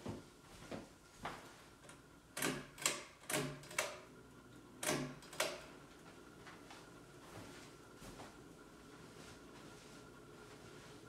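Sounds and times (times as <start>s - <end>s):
ceiling fan hum: 0.0s - 11.0s.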